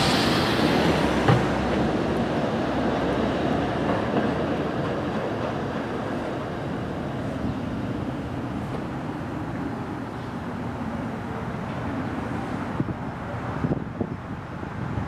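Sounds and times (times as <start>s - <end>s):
streetcar rumbling on rails: 0.0s - 15.0s.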